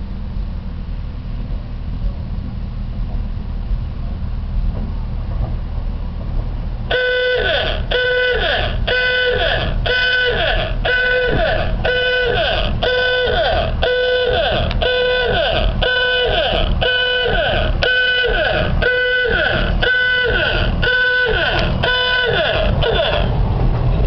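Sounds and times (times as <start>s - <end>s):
rail car moving along track: 0.0s - 24.0s.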